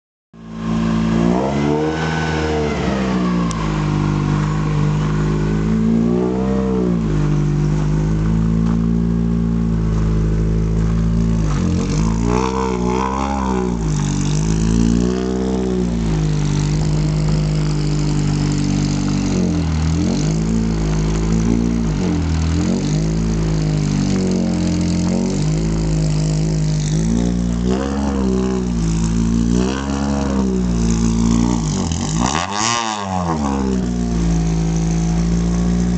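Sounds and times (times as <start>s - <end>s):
car engine idling and revving: 0.4s - 35.9s.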